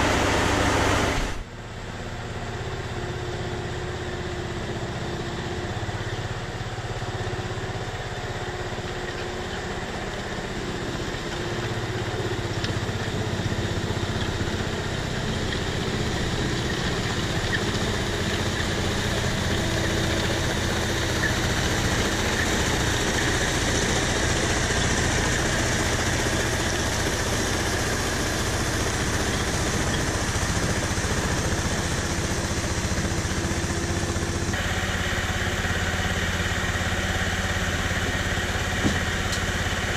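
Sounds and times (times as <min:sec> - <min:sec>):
tank engine running: 0:00.0 - 0:39.9.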